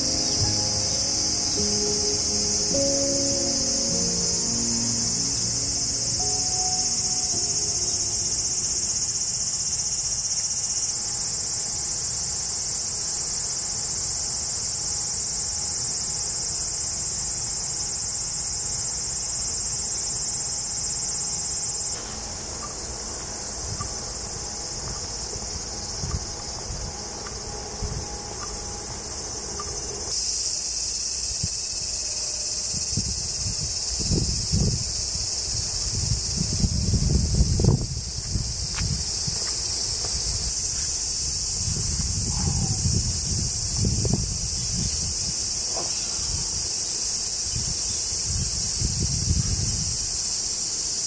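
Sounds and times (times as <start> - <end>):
cicadas droning: 0.0 - 51.0.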